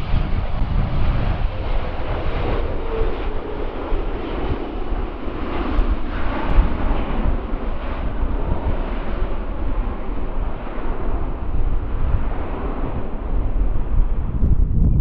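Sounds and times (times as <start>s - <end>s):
distant jet engine noise: 0.0s - 15.0s
wind buffeting microphone: 0.0s - 15.0s.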